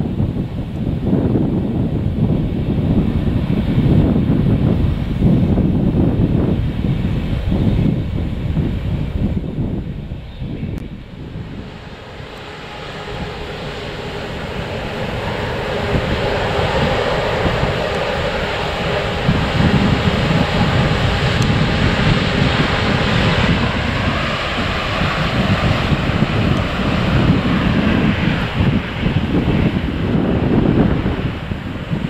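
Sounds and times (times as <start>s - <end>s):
jet engines whining and rumbling: 0.0s - 32.0s
wind buffeting microphone: 0.0s - 32.0s.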